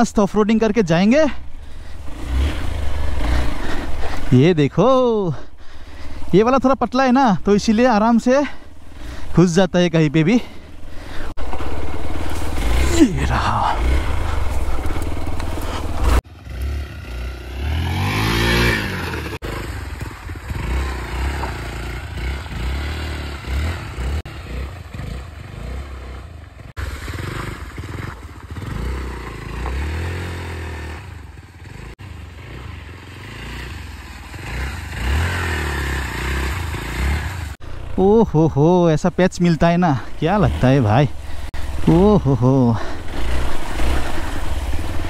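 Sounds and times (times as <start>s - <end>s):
motorcycle engine revving: 0.7s - 6.3s, 10.0s - 38.7s, 39.9s - 45.0s.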